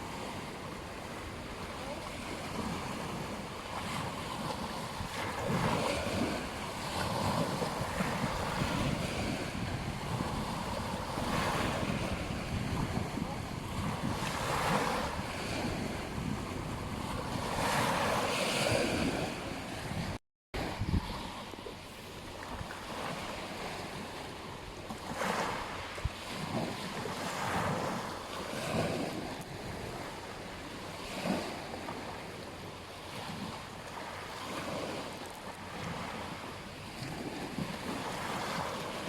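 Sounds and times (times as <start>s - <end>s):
wind buffeting microphone: 0.0s - 32.4s
ocean surf breaking on beach: 0.0s - 39.0s.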